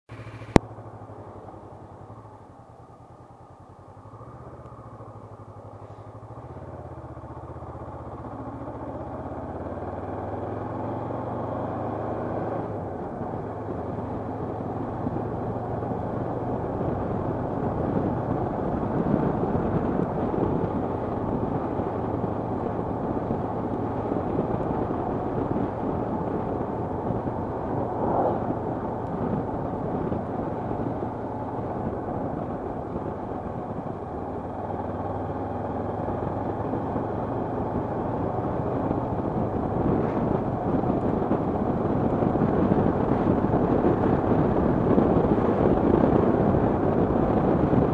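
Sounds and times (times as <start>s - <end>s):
motorcycle engine accelerating: 0.1s - 47.9s
wind rush on microphone: 4.1s - 47.9s.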